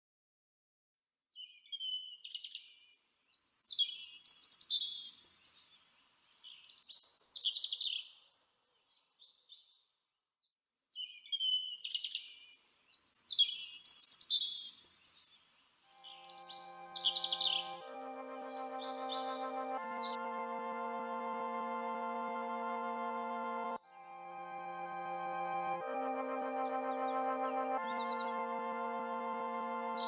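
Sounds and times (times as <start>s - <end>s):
songbird singing: 1.1s - 9.8s, 10.6s - 30.0s.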